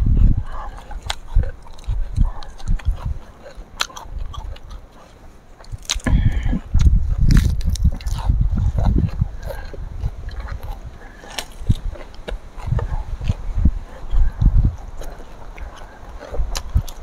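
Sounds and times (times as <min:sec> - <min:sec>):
chewing: 0:00.0 - 0:17.0
crunching raw vegetables: 0:00.0 - 0:17.0.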